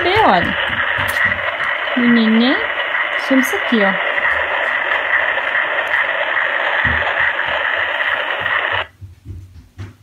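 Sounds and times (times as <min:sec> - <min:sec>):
hiss through tiny speaker: 0:00.0 - 0:08.9
fast fetal heartbeat pulse: 0:00.0 - 0:10.0.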